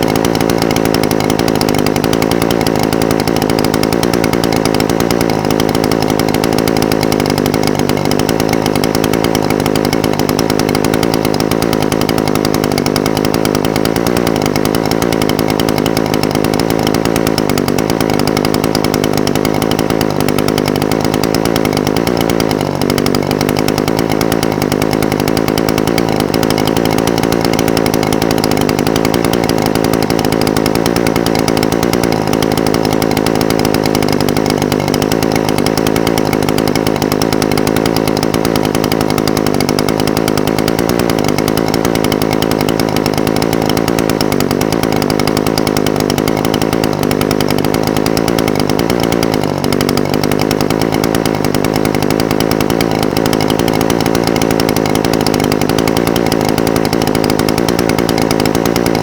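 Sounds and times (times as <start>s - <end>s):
brush cutter engine idling: 0.0s - 59.0s.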